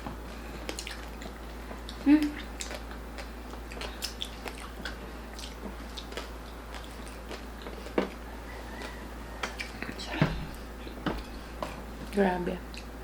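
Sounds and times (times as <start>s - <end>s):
chewing crispy food: 0.2s - 13.0s.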